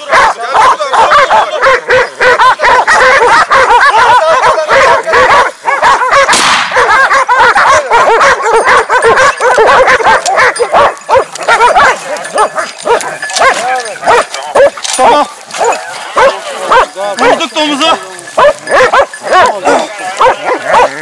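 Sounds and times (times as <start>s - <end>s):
dogs barking and yelping: 0.0s - 21.0s.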